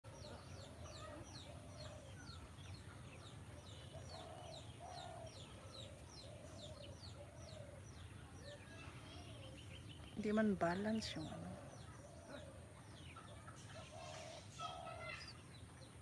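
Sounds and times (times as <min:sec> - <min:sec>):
lower bird calls: 0:00.1 - 0:15.4.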